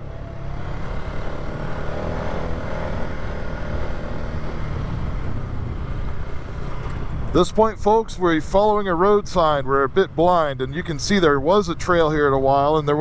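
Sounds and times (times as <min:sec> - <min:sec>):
atv engine droning: 0:00.0 - 0:13.0
trail noise: 0:00.0 - 0:13.0.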